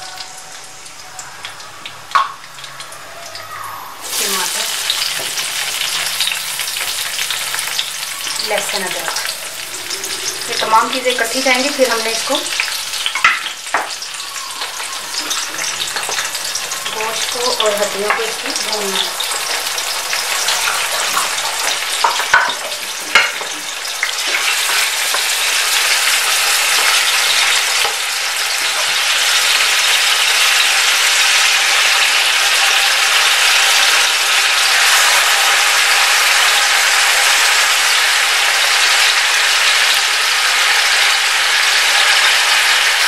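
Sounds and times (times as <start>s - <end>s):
hot oil sizzling in pot: 0.0s - 43.0s.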